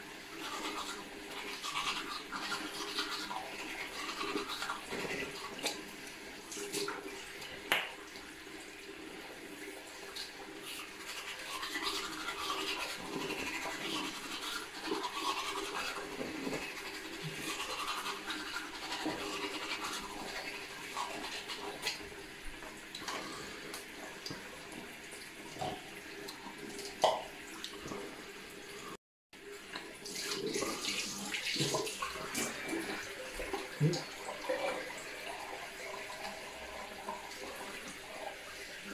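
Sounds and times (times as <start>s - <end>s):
toothbrush scrubbing teeth: 0.0s - 8.7s, 9.5s - 28.1s, 29.7s - 38.9s.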